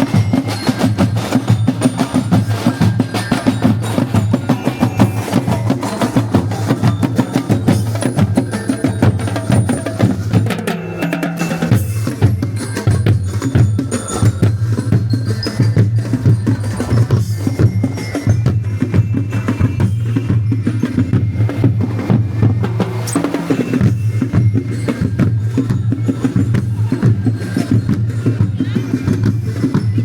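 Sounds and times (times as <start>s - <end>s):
drums: 0.0s - 30.0s.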